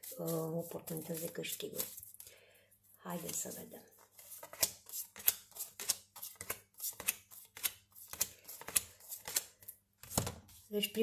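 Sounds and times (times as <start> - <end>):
cards being shuffled by hand: 0.0 - 2.2, 3.2 - 10.7.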